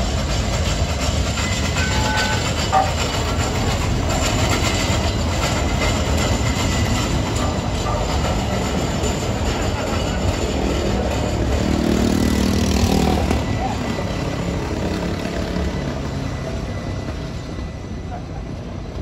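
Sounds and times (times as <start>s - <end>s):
streetcar wheels rumbling: 0.0s - 19.0s.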